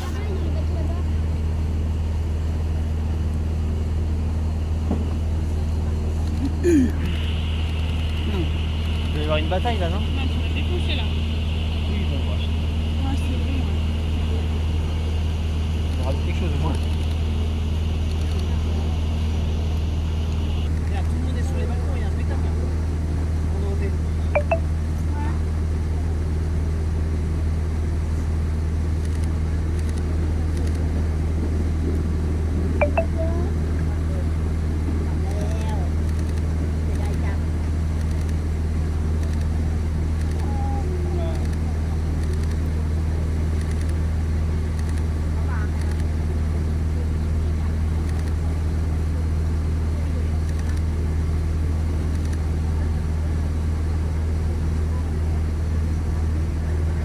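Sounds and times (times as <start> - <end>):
engine idling hum: 0.0 - 57.0.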